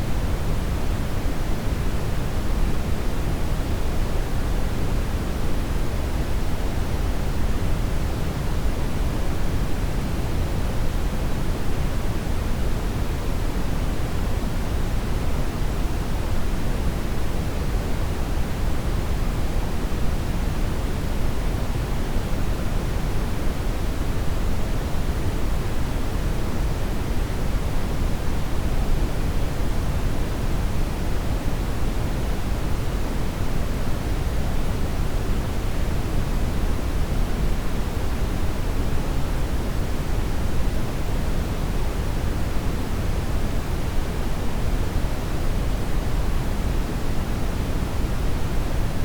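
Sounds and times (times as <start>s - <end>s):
brown noise hiss: 0.0s - 49.0s.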